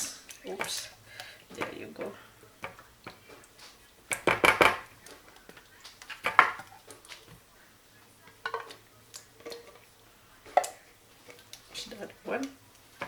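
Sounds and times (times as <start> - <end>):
kitchenware clattering: 0.0 - 13.0.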